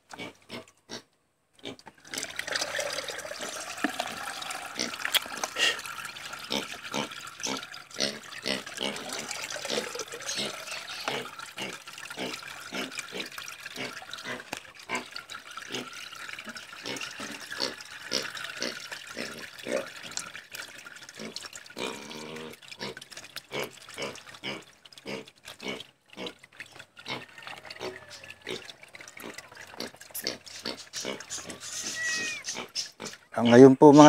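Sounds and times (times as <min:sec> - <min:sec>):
wet squelching: 0:02.0 - 0:33.3.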